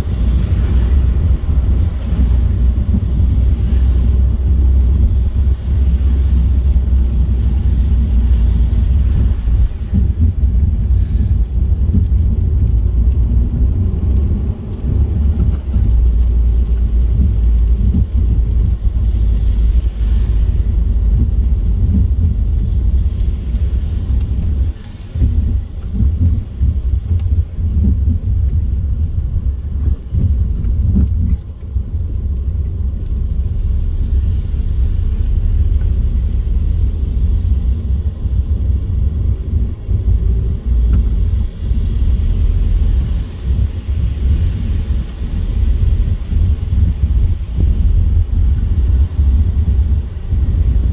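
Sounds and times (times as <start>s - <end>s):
car driving rumble: 0.0s - 50.9s.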